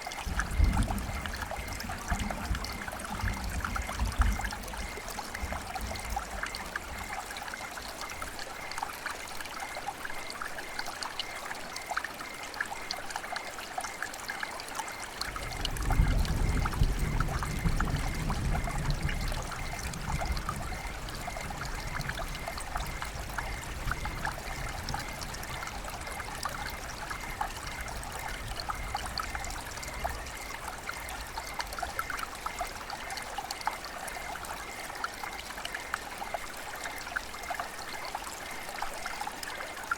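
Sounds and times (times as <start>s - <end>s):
rain and running water: 0.0s - 39.9s
water dripping: 0.0s - 39.9s.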